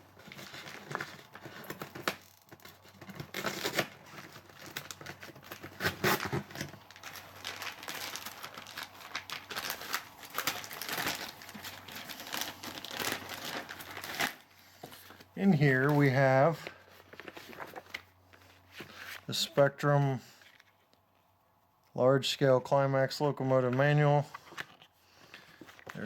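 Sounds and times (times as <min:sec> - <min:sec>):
paper rustling and crinkling: 0:00.1 - 0:19.3, 0:23.6 - 0:26.0.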